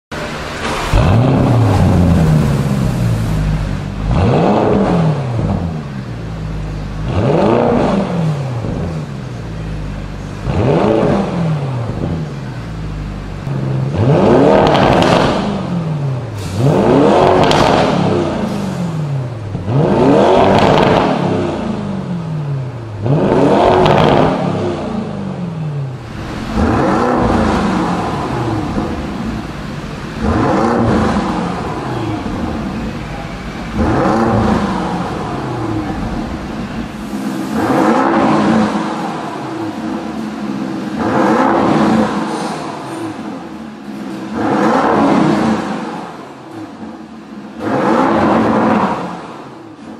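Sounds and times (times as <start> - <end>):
car engine revving: 0.1 - 49.9.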